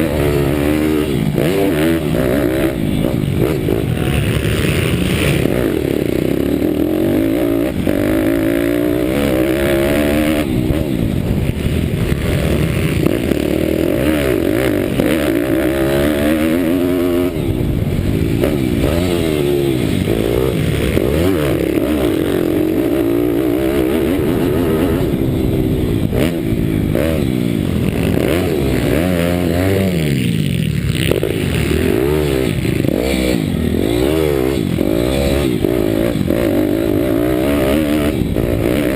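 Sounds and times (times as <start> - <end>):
other motorbike engines: 0.0 - 38.9
pitbike engine revving: 0.0 - 38.9.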